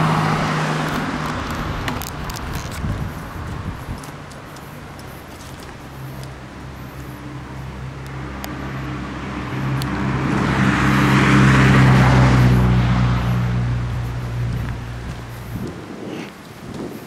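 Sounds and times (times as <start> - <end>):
car passing by: 0.0 - 16.1.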